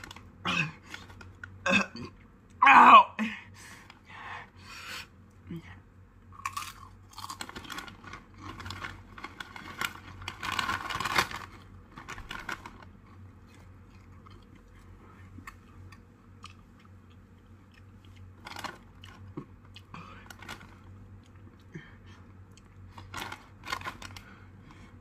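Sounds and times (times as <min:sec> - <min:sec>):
crunching and chewing chips: 0:00.0 - 0:02.6, 0:06.3 - 0:25.0.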